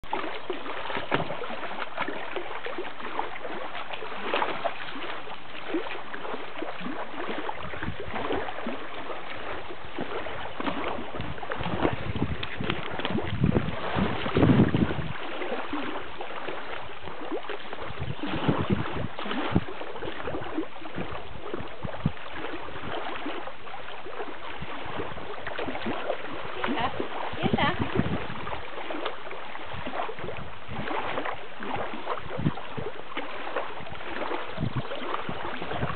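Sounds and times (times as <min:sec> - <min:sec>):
background water wash: 0:00.0 - 0:35.9
dog splashing through water: 0:00.0 - 0:35.9.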